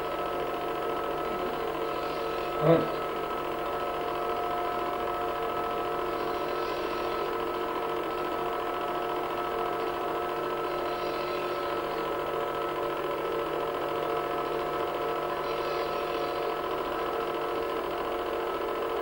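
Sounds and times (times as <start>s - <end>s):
film projector whirring: 0.0s - 19.0s
projector hum: 0.0s - 19.0s.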